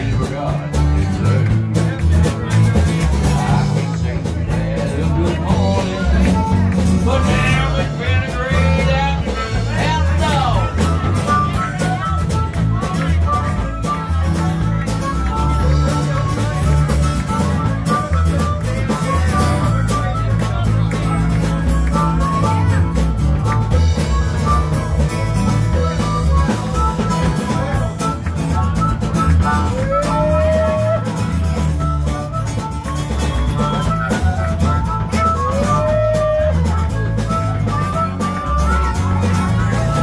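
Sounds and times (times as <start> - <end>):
bass line: 0.0 - 40.0
drum kit: 0.0 - 40.0
electric guitars: 0.0 - 40.0.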